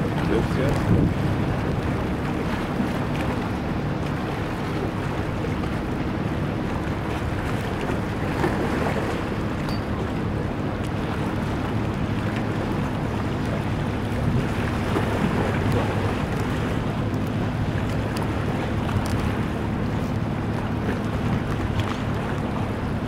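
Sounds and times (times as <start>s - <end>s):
boat engine droning: 0.0s - 23.0s
water noise: 0.0s - 23.0s
wind: 0.0s - 23.0s.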